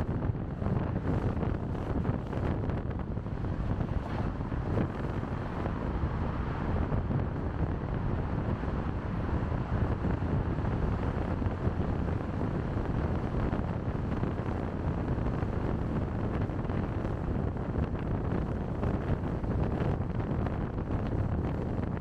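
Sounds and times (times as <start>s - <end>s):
low road noise rumble: 0.0s - 22.0s
wind noise on microphone: 0.0s - 22.0s.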